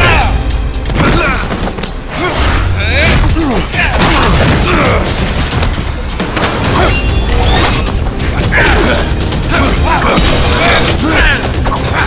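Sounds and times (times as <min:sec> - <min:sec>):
action film score with low beat: 0:00.0 - 0:12.0.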